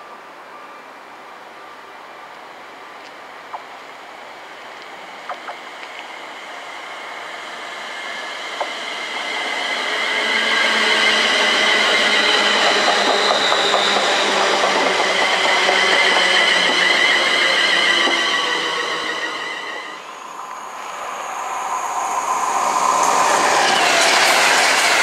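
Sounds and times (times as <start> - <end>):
train high whine: 4.2 - 25.0
train wheels rushing on rails: 4.6 - 25.0.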